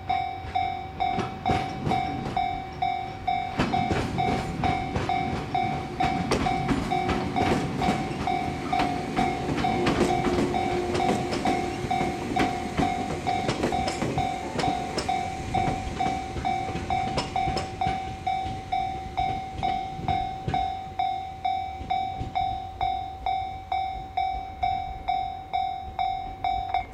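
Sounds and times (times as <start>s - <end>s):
level crossing alarm ringing: 0.0s - 26.9s
train wheels clicking over rail joints: 0.0s - 26.9s.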